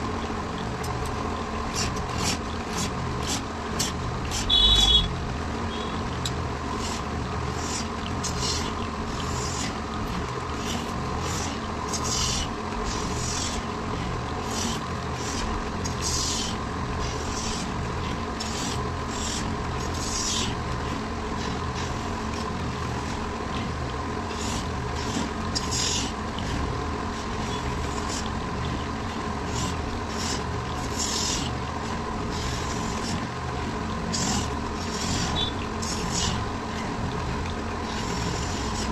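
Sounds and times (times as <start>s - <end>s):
wood lathe motor hum: 0.0s - 38.9s
tool scraping spinning wood: 0.8s - 5.1s, 5.8s - 38.9s.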